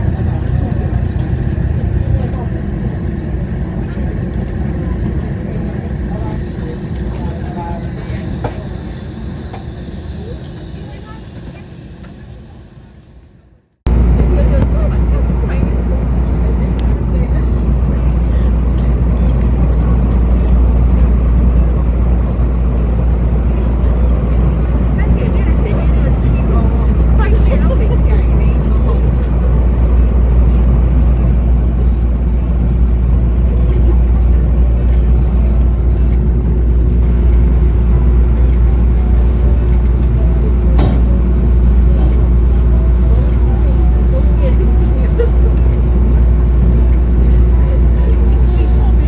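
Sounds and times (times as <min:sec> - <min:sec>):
constant hum: 0:00.0 - 0:49.0
vehicle low rumble: 0:00.0 - 0:49.0.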